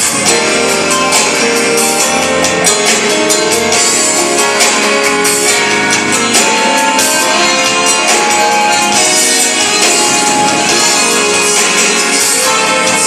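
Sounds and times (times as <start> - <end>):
guitar: 0.0 - 13.0
percussion hits: 0.0 - 13.0
sustained chords: 0.0 - 13.0.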